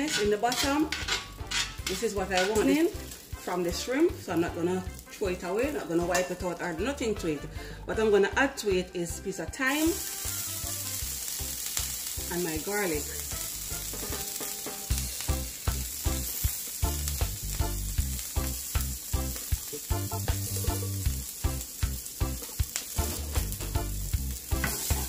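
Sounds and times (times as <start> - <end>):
oil sizzling in a skillet: 0.0 - 25.0.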